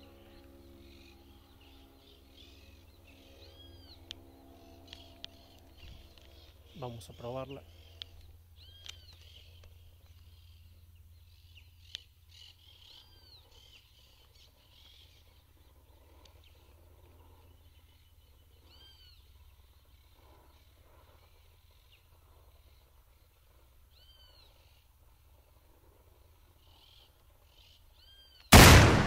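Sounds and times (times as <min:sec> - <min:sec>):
low steady rumble: 0:00.0 - 0:27.0, 0:28.5 - 0:29.0
faint bird chirps: 0:00.0 - 0:28.5.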